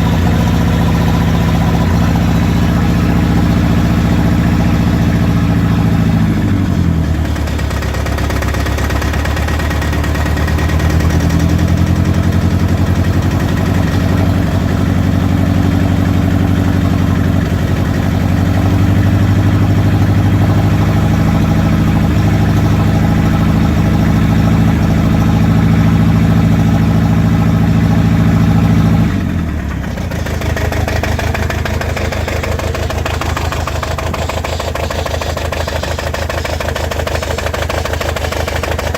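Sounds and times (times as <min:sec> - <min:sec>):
engine running rough with misfire: 0:00.0 - 0:38.9.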